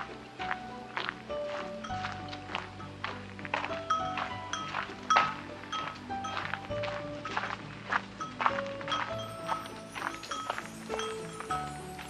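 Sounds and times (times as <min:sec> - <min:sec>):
light instrumental tune: 0:00.0 - 0:12.0.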